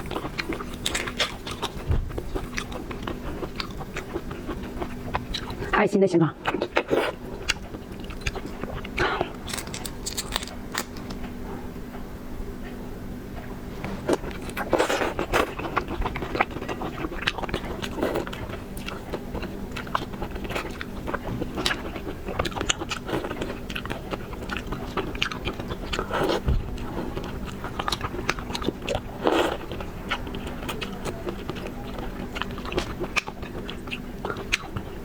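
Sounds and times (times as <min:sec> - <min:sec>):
person chewing shrimp: 0:00.0 - 0:05.7, 0:06.4 - 0:11.4, 0:13.8 - 0:35.0.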